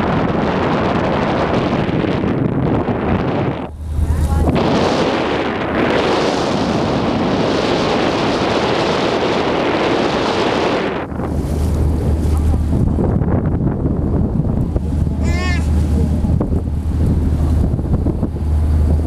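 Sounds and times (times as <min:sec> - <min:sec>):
boat engine hum: 0:00.0 - 0:19.0
wind buffeting microphone: 0:00.0 - 0:19.0.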